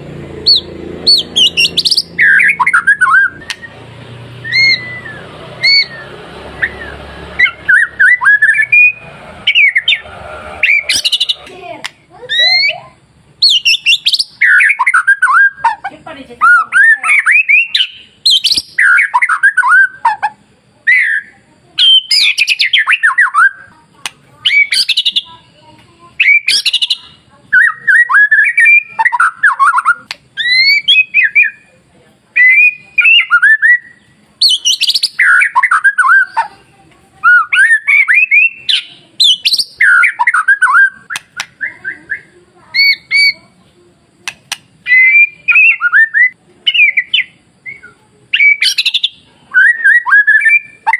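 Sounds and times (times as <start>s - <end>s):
bird singing whistled phrases: 0.4s - 10.0s, 12.3s - 12.8s, 13.4s - 15.8s, 16.4s - 23.7s, 24.4s - 25.3s, 26.2s - 31.7s, 32.3s - 36.5s, 37.2s - 43.5s, 44.2s - 50.9s.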